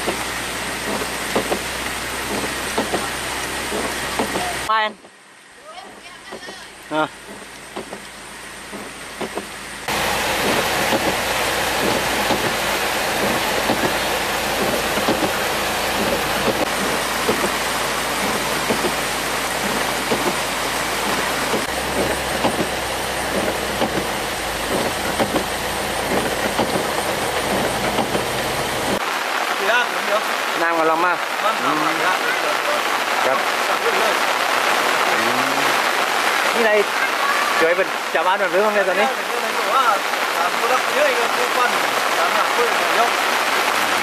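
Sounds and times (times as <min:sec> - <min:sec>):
heavy rain pouring: 0:00.0 - 0:44.0.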